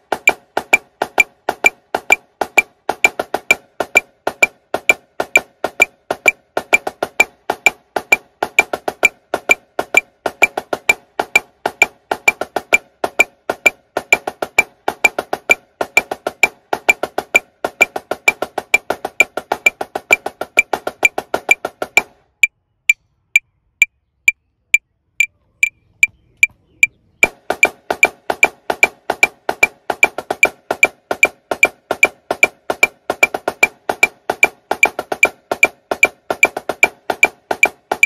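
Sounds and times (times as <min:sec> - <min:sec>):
metronome clicking: 0:00.0 - 0:22.1, 0:27.2 - 0:38.0
marching snare drum: 0:00.0 - 0:22.2, 0:27.2 - 0:38.0.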